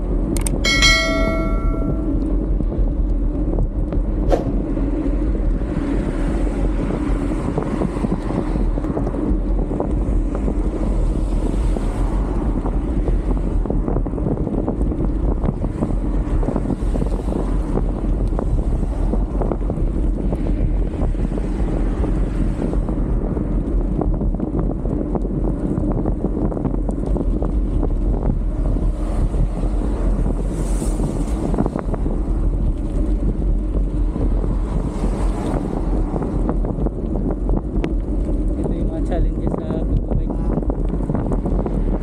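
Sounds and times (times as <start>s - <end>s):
bicycle tyre noise: 0.0s - 42.0s
wind rushing over microphone: 0.0s - 42.0s.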